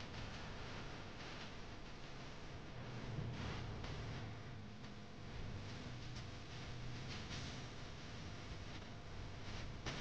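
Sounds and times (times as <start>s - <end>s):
steady low hum and hiss: 0.0s - 10.0s.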